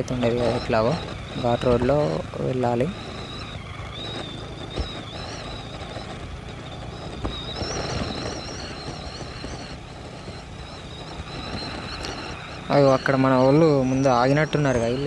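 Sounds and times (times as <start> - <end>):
motorcycle engine running: 0.0 - 15.0
thin high whine: 0.0 - 15.0
wind noise on microphone: 0.0 - 15.0.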